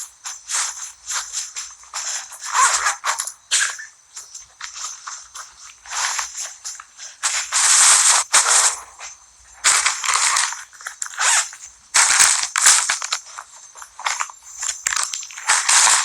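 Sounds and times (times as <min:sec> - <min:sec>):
bags rustling and crinkling: 0:00.0 - 0:16.0.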